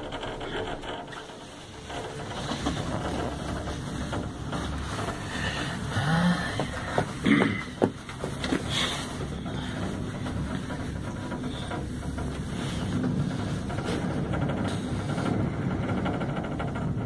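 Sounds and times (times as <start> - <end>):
cable car cabin rumble: 0.0 - 17.0.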